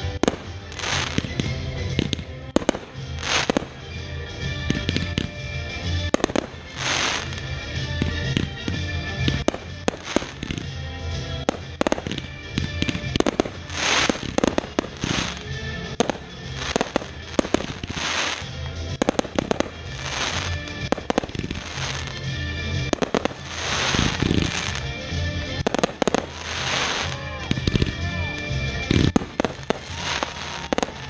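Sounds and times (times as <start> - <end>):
fireworks bangs: 0.0 - 31.0
fireworks crackling and hissing: 0.0 - 31.0
music with steady bass line: 0.0 - 31.0.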